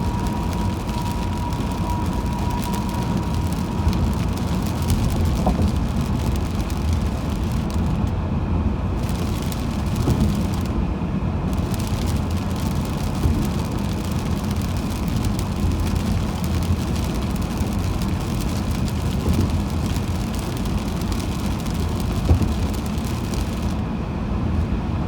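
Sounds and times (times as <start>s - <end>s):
rain ticking: 0.0s - 8.1s, 8.8s - 10.8s, 11.5s - 23.9s
car road rumble: 0.0s - 25.0s.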